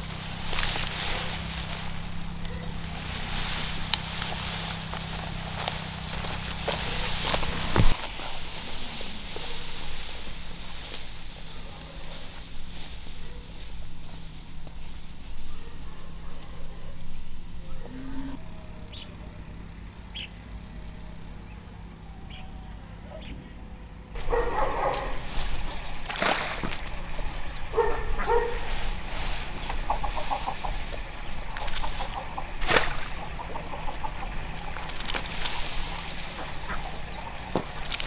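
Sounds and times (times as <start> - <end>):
chickens clucking: 0.0 - 21.7, 22.3 - 38.0.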